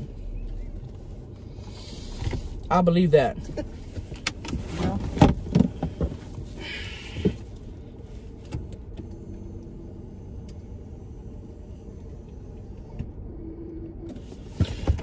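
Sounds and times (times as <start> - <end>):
car engine running low rumble: 0.0 - 15.0.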